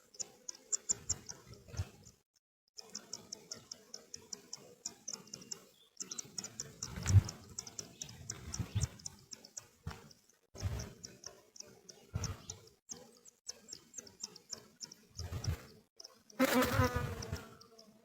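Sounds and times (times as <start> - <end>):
insects chirping: 0.0 - 2.2, 2.8 - 18.0.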